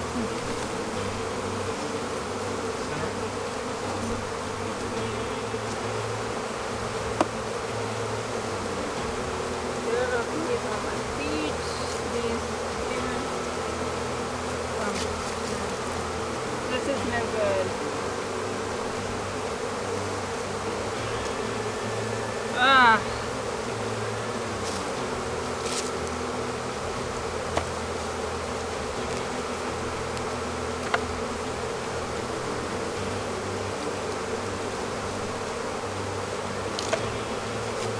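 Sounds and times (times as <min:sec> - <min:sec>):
honeybees buzzing: 0:00.0 - 0:37.9.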